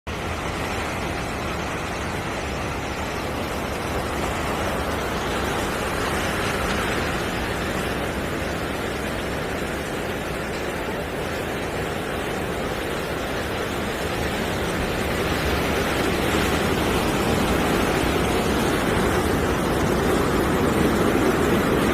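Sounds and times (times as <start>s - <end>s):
ocean surf rushing: 0.1s - 21.9s.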